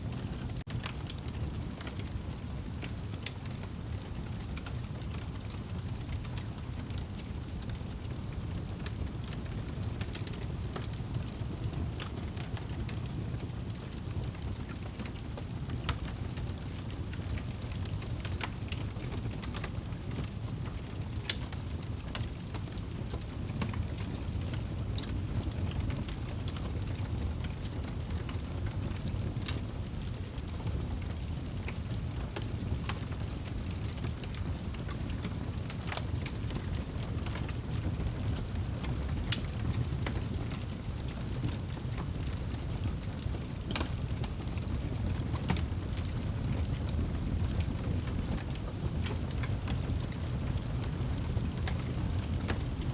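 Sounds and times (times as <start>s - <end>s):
fire burning in a fireplace: 0.0s - 52.9s
fire crackling and popping: 0.1s - 52.9s.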